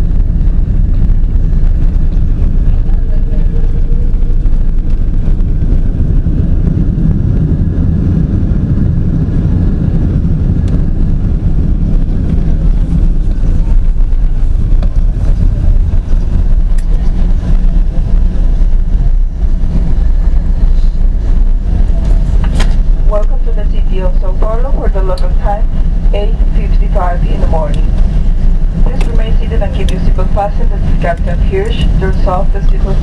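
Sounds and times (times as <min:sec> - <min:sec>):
low rumble inside aircraft cabin: 0:00.0 - 0:33.0.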